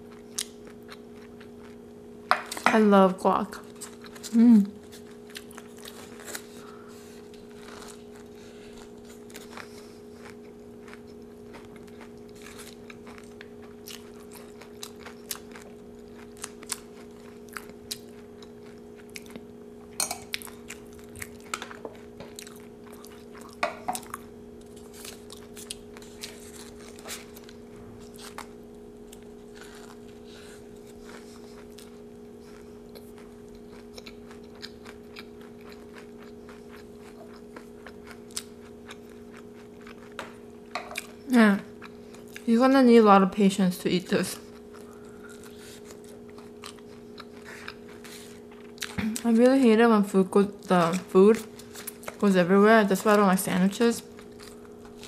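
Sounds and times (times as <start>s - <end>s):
chewing crunchy food: 0.0s - 2.7s, 3.5s - 42.9s, 44.1s - 49.7s, 50.4s - 55.0s
steady low hum: 0.0s - 55.0s.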